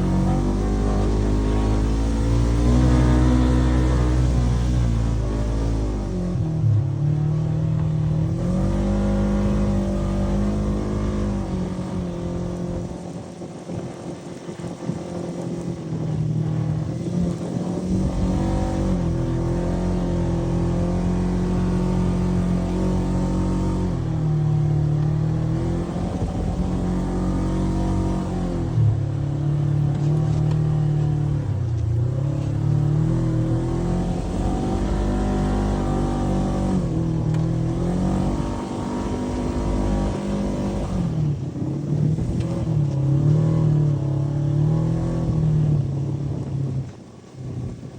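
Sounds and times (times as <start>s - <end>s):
engine revving: 0.0s - 47.0s.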